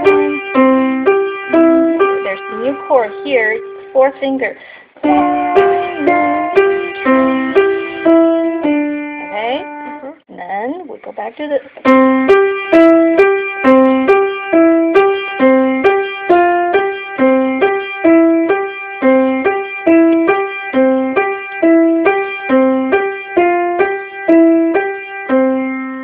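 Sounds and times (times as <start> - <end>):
piano broken chords: 0.0 - 10.3, 11.8 - 26.0.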